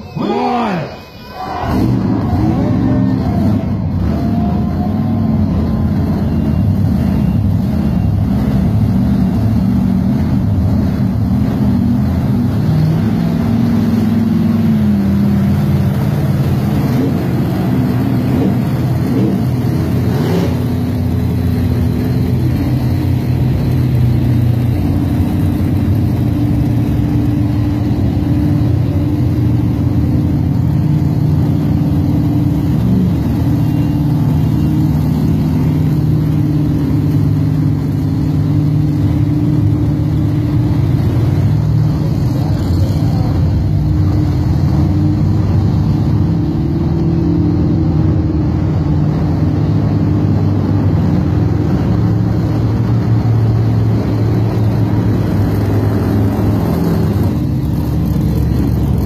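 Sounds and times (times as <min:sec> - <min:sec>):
monster truck engines racing: 0:00.0 - 0:59.0.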